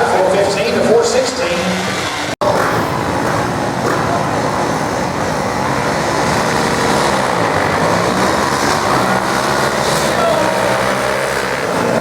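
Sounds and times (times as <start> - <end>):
crowd chatter: 0.0 - 12.0
racing engines running: 0.0 - 12.0.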